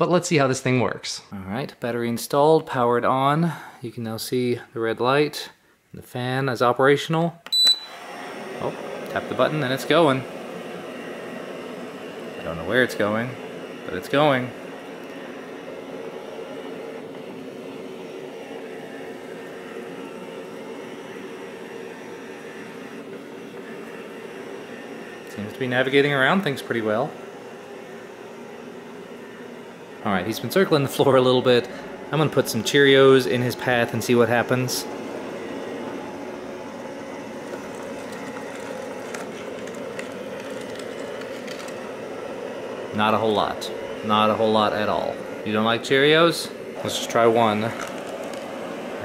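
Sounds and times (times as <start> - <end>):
robot vacuum humming: 7.8 - 49.0.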